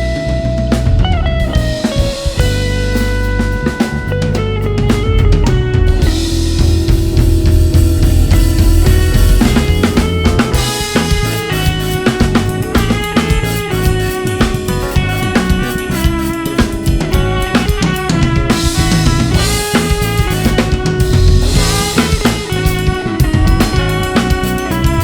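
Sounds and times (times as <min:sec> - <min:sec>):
band playing live: 0:00.0 - 0:25.0
snare and bass drum hits: 0:04.9 - 0:25.0.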